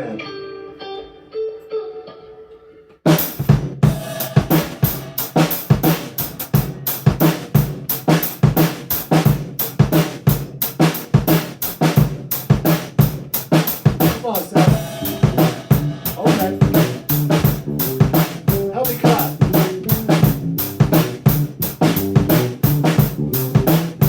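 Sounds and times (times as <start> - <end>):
drum kit playing a groove: 3.1 - 24.0.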